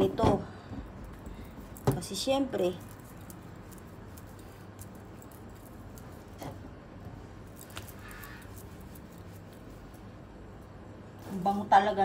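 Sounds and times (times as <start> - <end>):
limes rolling on stone countertop: 0.0 - 11.8.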